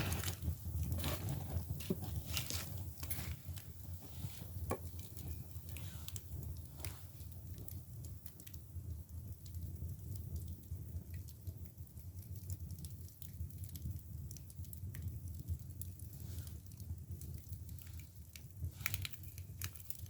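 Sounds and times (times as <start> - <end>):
firewood burning with crackles: 0.0 - 20.0.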